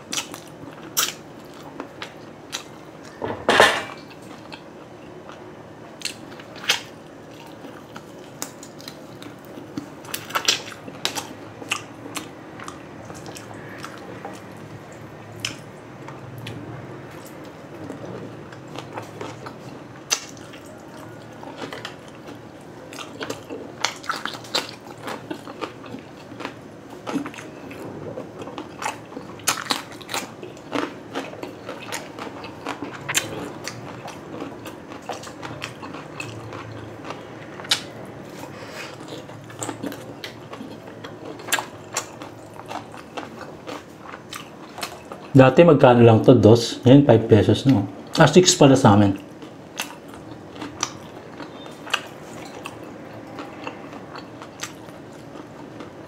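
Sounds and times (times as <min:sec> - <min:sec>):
chewing grilled meat: 0:00.0 - 0:03.2, 0:03.9 - 0:46.8, 0:47.6 - 0:56.0.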